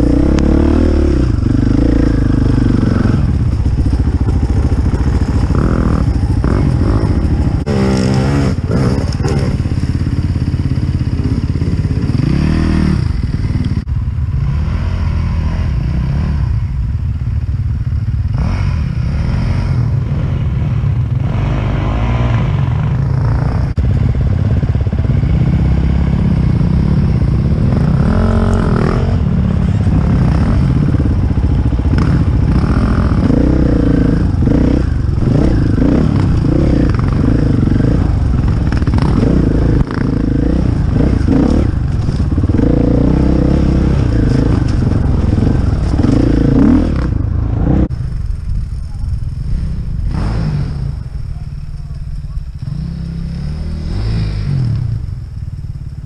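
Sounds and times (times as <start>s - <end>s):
dirt bike engine revving: 0.0s - 16.8s, 17.8s - 51.8s, 52.5s - 55.2s.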